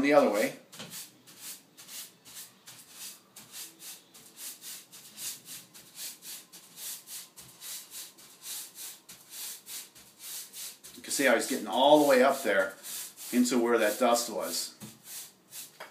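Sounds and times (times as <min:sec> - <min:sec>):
paintbrush swishing on wood: 0:00.8 - 0:15.9.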